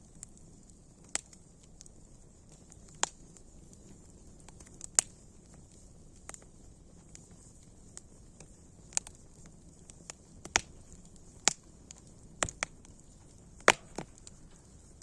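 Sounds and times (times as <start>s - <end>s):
campfire crackling and popping: 0.0s - 15.0s
faint steady hiss: 0.0s - 15.0s.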